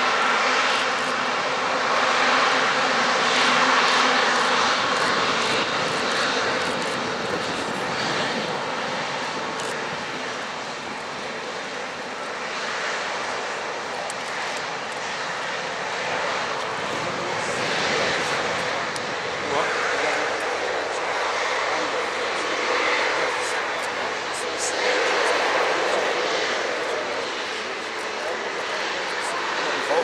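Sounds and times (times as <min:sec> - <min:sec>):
jet engine whine and hiss: 0:00.0 - 0:30.0.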